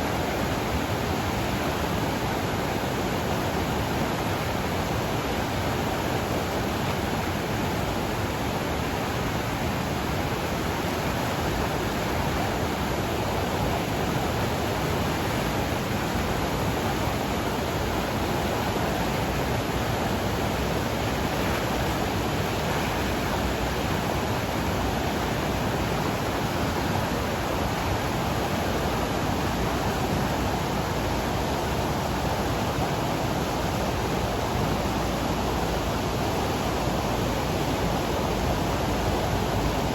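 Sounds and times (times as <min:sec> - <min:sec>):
rushing river roar: 0:00.0 - 0:39.9.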